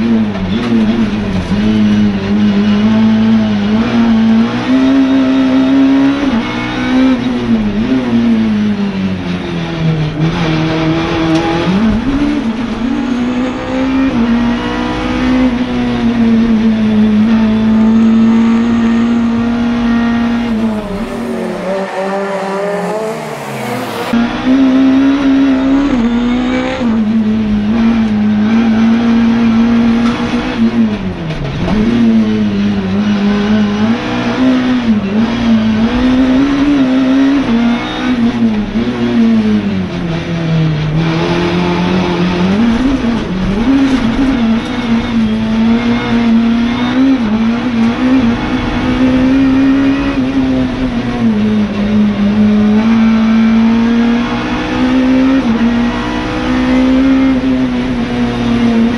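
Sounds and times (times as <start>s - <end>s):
racing car engine revving: 0.0s - 58.9s.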